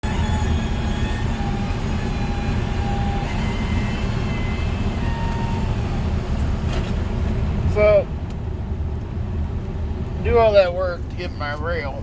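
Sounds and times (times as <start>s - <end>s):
road noise inside cab: 0.0s - 12.0s
truck engine drone: 0.0s - 12.0s.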